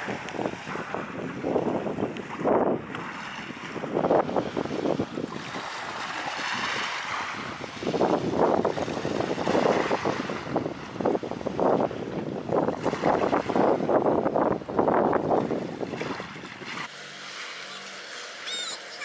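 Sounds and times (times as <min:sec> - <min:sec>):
gusty wind buffeting microphone: 0:00.0 - 0:16.9
sea waves washing on shore: 0:00.0 - 0:19.0.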